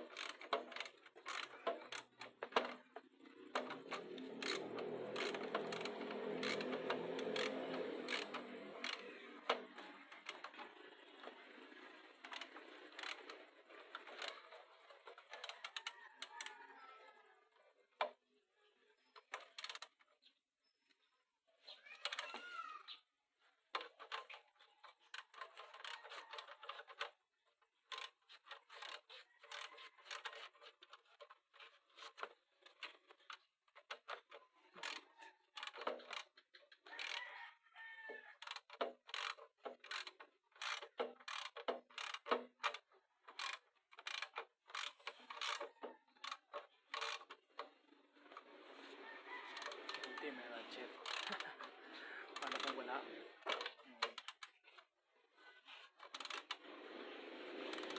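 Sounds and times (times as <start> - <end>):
clicks and knocks of parts: 0.0 - 16.6, 23.7 - 37.3, 38.1 - 54.9, 55.7 - 56.8.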